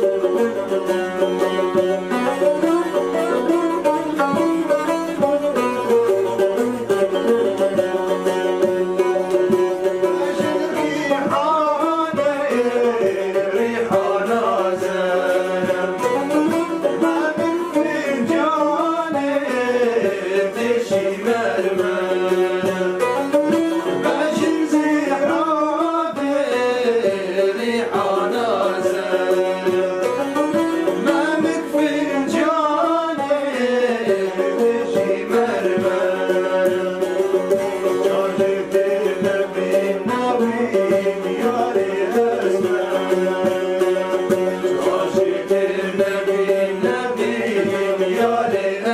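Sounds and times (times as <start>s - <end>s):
men singing: 0.0s - 48.9s
plucked banjo-like instrument: 0.0s - 48.9s
strummed long-necked lute: 0.0s - 48.9s.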